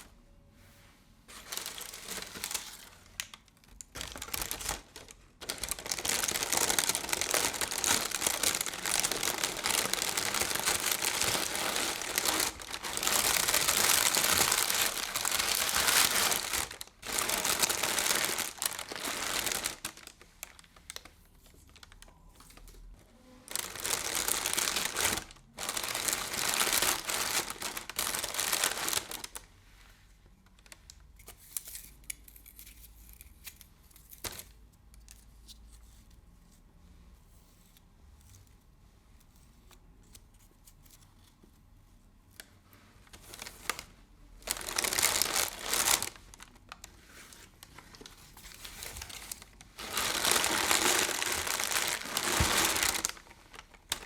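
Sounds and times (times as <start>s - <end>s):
crinkly material crinkling: 0.0s - 54.0s.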